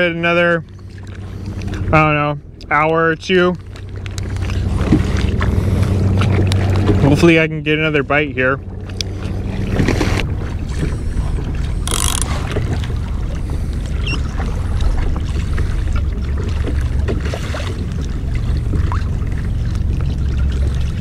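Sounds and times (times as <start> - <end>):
water lapping against hull: 0.0 - 21.0.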